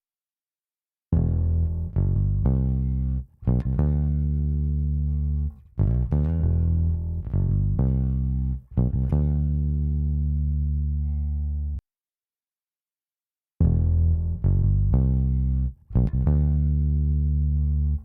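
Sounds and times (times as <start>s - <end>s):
electric bass plucked notes: 1.1s - 11.8s, 13.6s - 18.0s.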